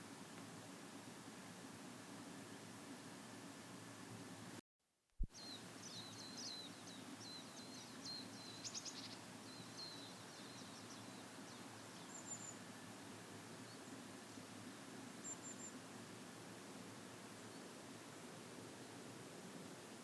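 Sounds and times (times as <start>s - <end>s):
low background hiss: 0.0s - 4.6s, 5.3s - 20.0s.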